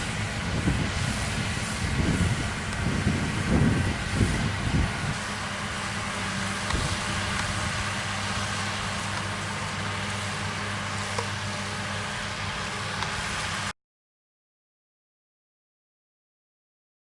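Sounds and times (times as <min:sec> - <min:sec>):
tractor engine running: 0:00.0 - 0:13.7.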